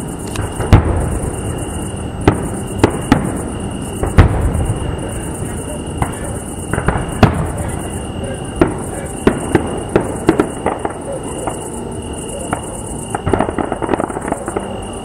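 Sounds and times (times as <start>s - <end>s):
background rumble: 0.0s - 15.0s
fireworks bursting with sharp bangs: 0.0s - 15.0s.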